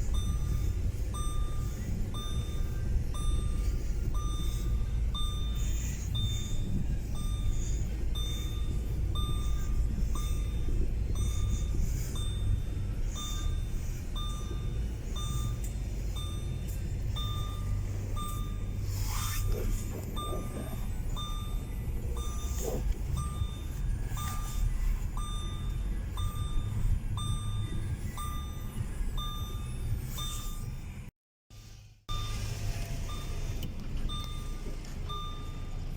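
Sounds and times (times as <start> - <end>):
electronic warning beeps: 0.0 - 31.1, 32.1 - 35.9
vehicle engine rumble: 0.0 - 35.9.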